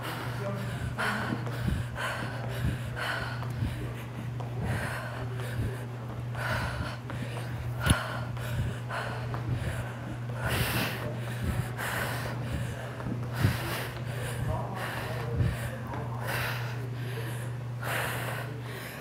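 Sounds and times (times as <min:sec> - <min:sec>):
steady low hum: 0:00.0 - 0:19.0
woman breathing hard: 0:00.0 - 0:19.0.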